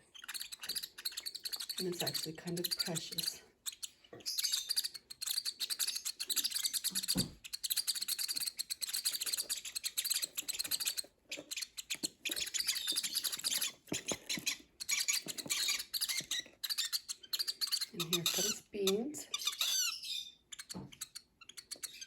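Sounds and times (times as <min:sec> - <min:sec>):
baby lovebirds chirping: 0:00.0 - 0:22.0.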